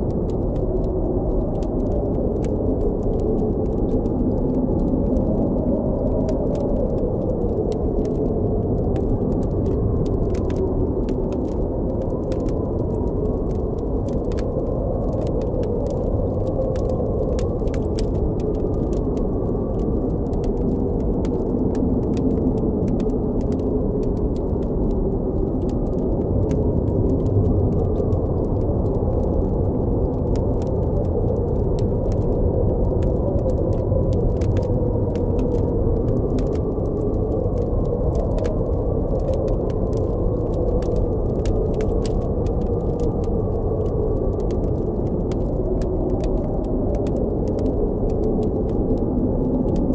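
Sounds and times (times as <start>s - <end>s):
blizzard wind howling: 0.0s - 49.9s
campfire popping and crackling: 0.0s - 49.9s.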